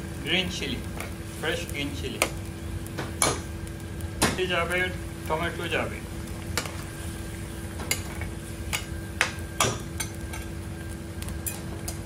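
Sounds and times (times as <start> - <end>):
low sizzle: 0.0 - 12.0.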